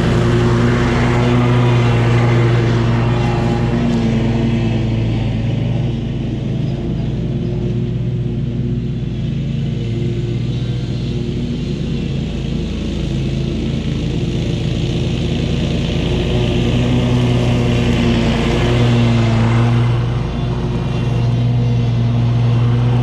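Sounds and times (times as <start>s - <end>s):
lawn mower running: 0.0s - 23.0s.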